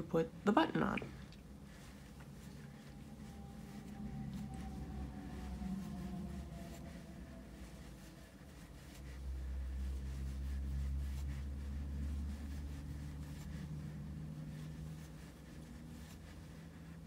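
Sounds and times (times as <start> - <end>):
low rumble: 0.0 - 17.0
yarn rustling through stitches: 1.4 - 17.0.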